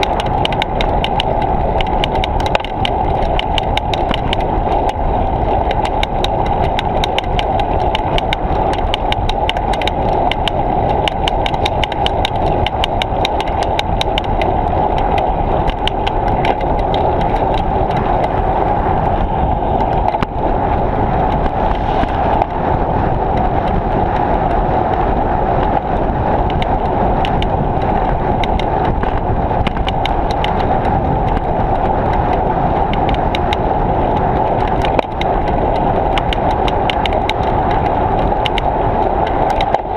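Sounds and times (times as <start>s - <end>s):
bike rattling clicks: 0.0s - 39.9s
wind rushing over camera: 0.0s - 39.9s.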